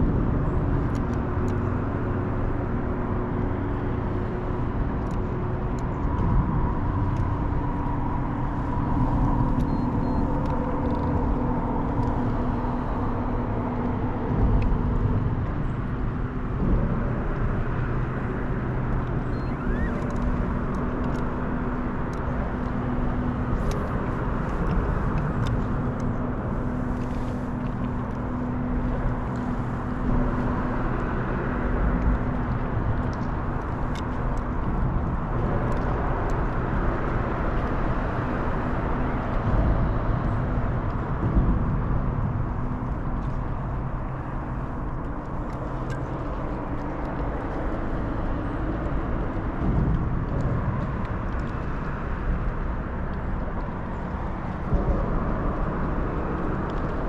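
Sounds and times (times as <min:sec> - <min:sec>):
boat motor humming: 0:00.0 - 0:57.0.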